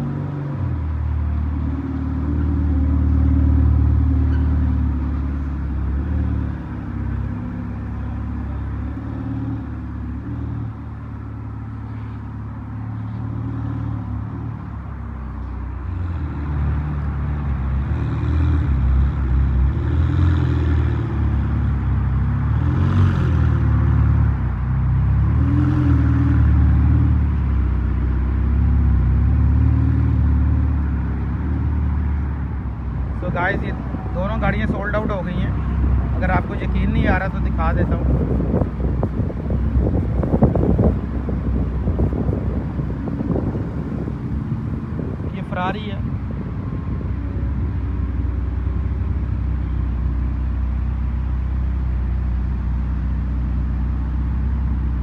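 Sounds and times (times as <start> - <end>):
car engine deep rumble: 0.0 - 55.0.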